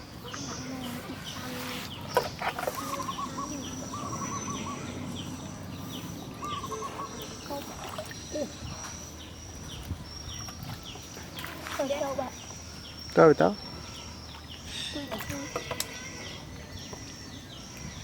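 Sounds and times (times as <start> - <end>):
birds chirping and warbling: 0.0 - 18.0.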